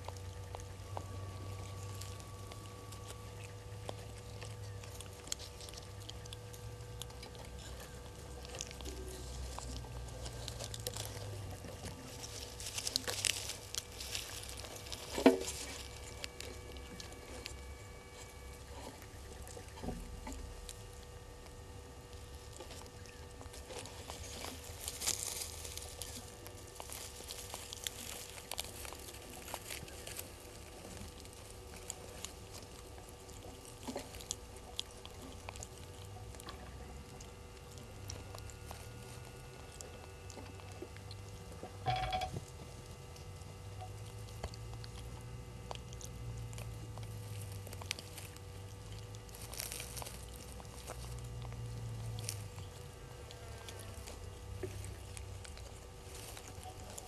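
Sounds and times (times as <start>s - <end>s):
dry leaves rustling: 0.0s - 57.0s
low steady hum: 0.0s - 57.0s.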